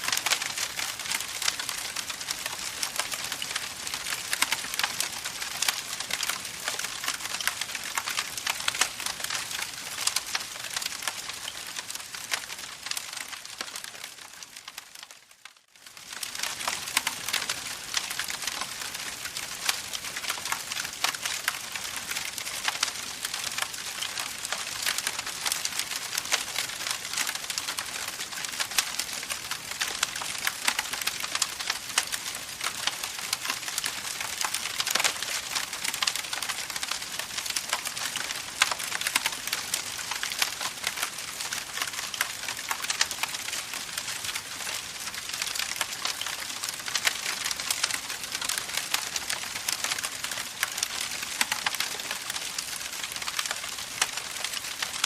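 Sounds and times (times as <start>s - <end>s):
campfire crackling: 0.0s - 15.1s, 15.8s - 55.0s.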